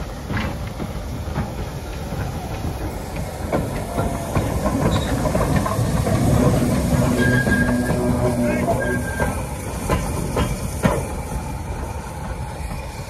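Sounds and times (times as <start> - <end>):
steam hissing: 0.0 - 13.0
clanks and knocks from wheels: 0.1 - 11.9.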